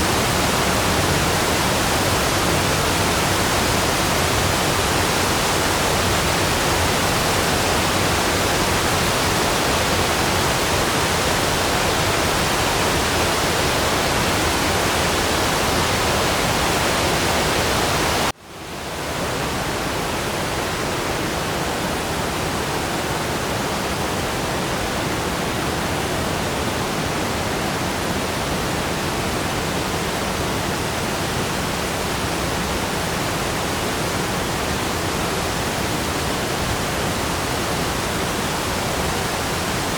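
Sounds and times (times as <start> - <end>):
waterfall rushing: 0.0 - 18.3, 18.9 - 39.9.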